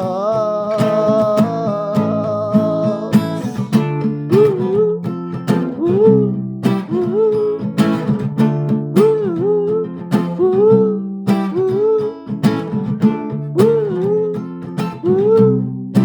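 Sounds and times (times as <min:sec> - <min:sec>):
person singing wordless phrases: 0:00.0 - 0:07.8, 0:09.0 - 0:12.3, 0:13.5 - 0:15.7
acoustic guitar strumming: 0:00.0 - 0:16.0.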